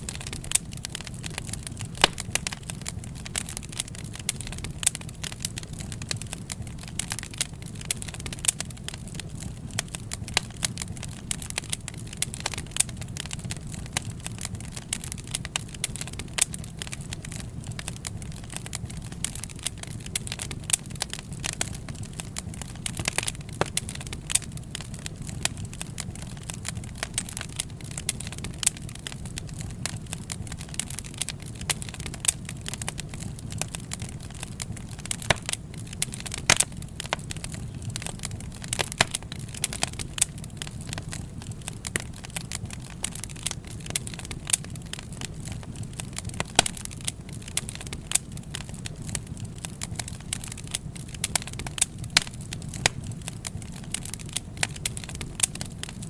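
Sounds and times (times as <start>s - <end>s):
fire low rumble: 0.0s - 56.0s
wood fire crackling: 0.0s - 56.0s.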